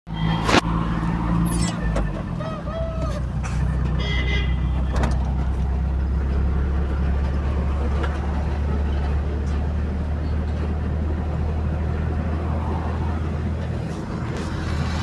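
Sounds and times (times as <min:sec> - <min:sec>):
vehicle engine and road noise: 0:00.1 - 0:15.0.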